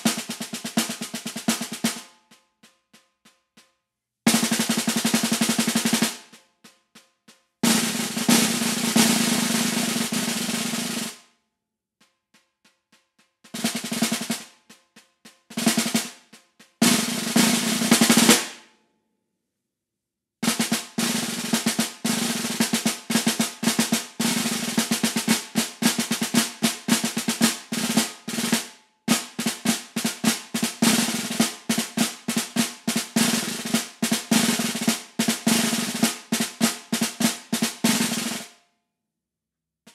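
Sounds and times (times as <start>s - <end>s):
snare drum played with sticks: 0.0s - 11.4s, 12.0s - 18.7s, 20.4s - 38.6s.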